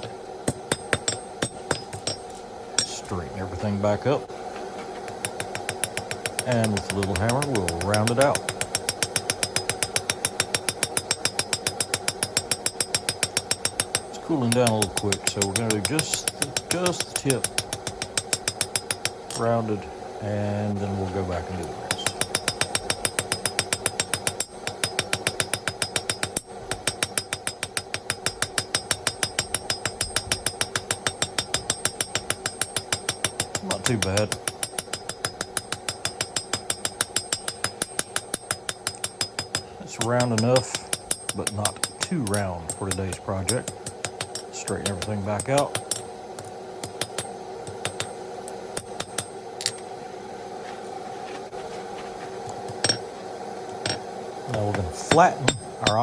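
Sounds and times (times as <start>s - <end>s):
hammer striking steel on anvil: 0.0s - 3.7s, 5.0s - 19.7s, 21.9s - 49.9s, 52.6s - 53.1s, 53.7s - 56.0s
steady low hum: 0.0s - 56.0s.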